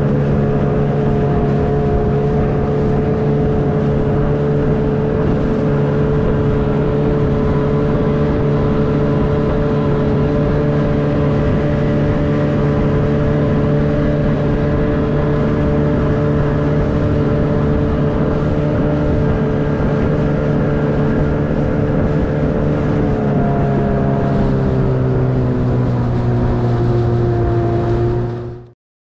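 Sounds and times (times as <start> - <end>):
motorboat engine running: 0.0 - 28.8.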